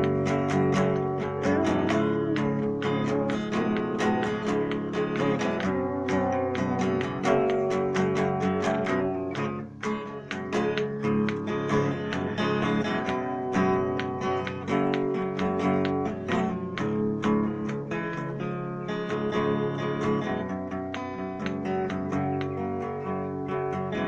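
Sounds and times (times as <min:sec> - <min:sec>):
acoustic guitar strumming and picking: 0:00.0 - 0:24.0.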